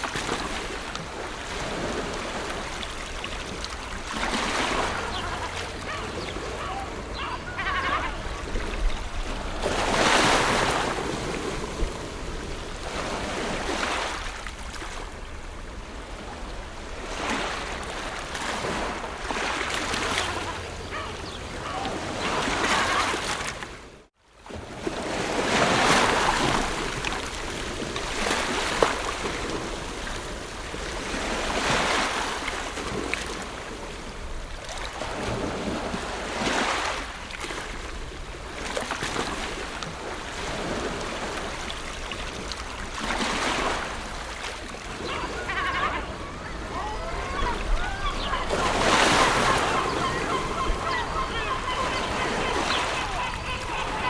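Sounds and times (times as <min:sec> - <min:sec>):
waves breaking on shore: 0:00.0 - 0:54.0.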